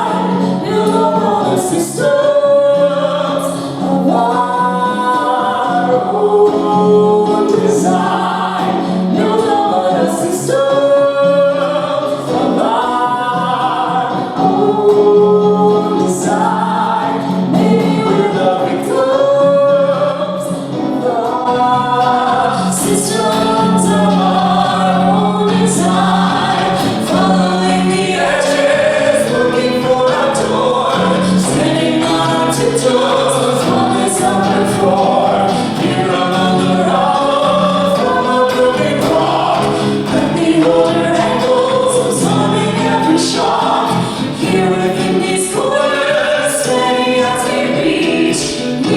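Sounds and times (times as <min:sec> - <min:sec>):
sustained musical accompaniment: 0:00.0 - 0:48.9
voices singing: 0:00.0 - 0:48.9.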